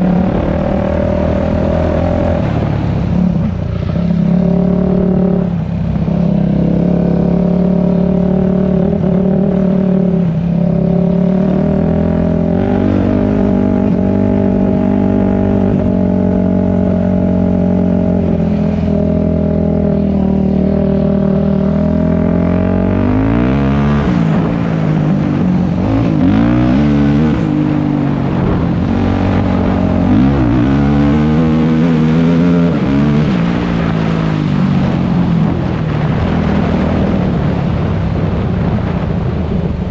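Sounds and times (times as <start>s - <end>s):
dirt bike engine revving: 0.0s - 34.4s.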